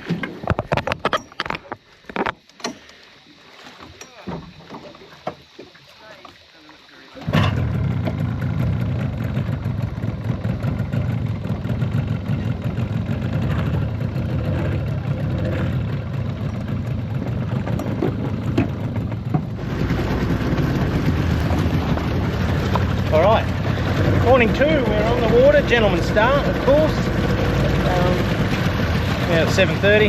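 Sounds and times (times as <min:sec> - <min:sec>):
outboard motor running: 0:01.6 - 0:30.0.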